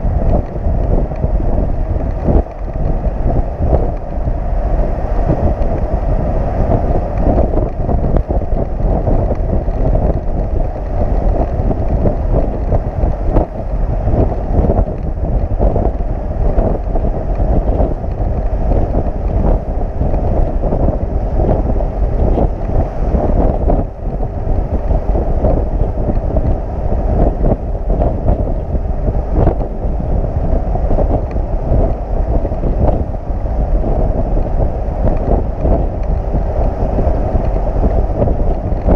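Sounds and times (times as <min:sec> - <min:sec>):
truck road rumble: 0:00.0 - 0:38.9
wind buffeting the microphone: 0:00.0 - 0:38.9.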